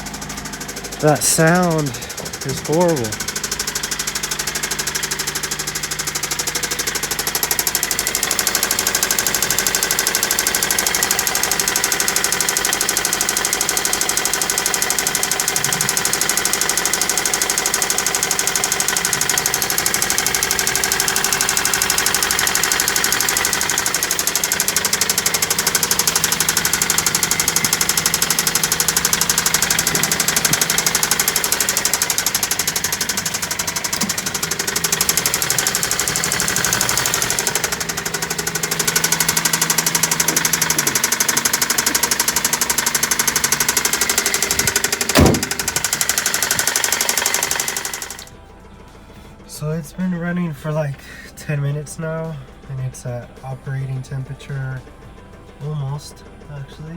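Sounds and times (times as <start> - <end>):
engine running with heavy knock: 0.0 - 56.9.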